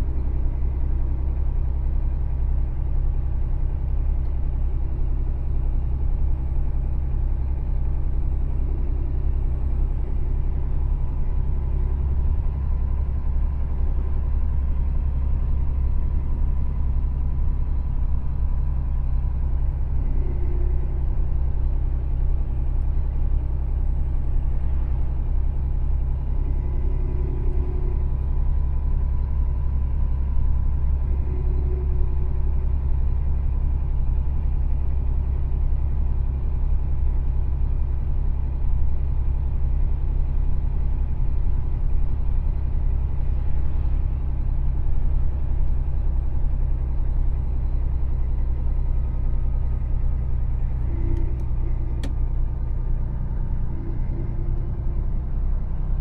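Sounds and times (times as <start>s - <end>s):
truck diesel engine rumble: 0.0s - 56.0s
road noise: 7.2s - 37.2s, 40.0s - 56.0s.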